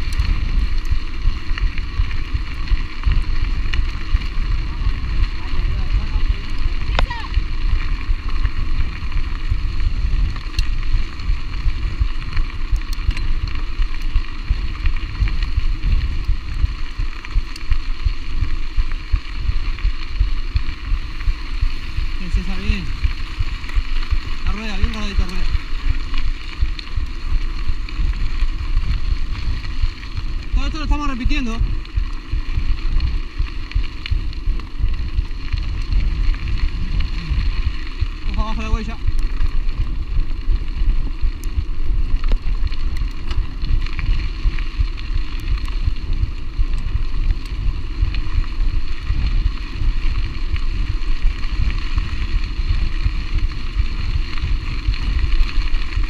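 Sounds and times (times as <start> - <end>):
bike tyres on gravel: 0.0 - 56.0
wind rumble on microphone: 0.0 - 56.0.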